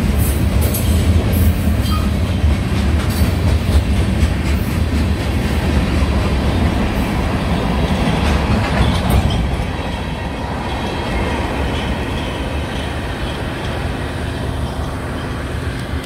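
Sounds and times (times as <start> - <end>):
freight train wheels rumbling on rails: 0.0 - 16.0.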